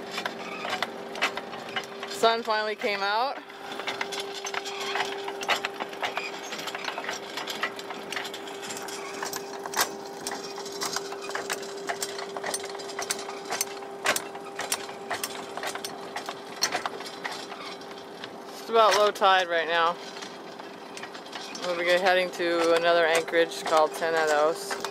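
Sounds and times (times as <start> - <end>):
chain clicking and clanking: 0.0 - 24.9
windlass motor hum: 0.0 - 24.9.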